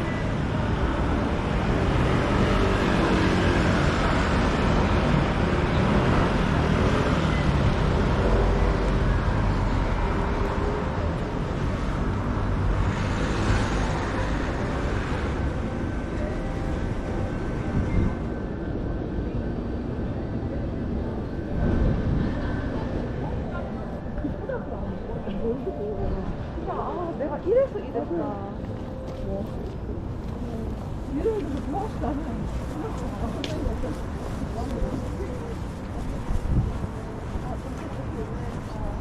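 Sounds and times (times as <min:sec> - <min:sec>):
passing cars traffic: 0:00.0 - 0:39.0.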